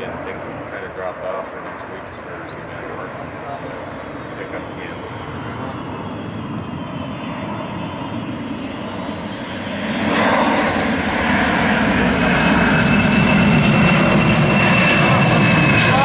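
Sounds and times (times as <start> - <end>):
jet aircraft flying over: 0.0 - 16.0
high whine: 1.8 - 16.0.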